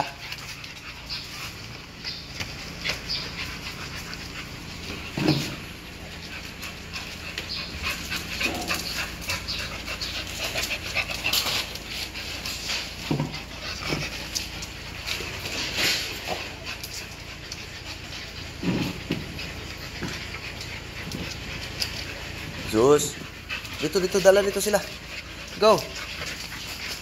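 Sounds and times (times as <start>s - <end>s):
paws ticking and scraping: 0.0s - 27.0s
puppies panting: 0.0s - 27.0s.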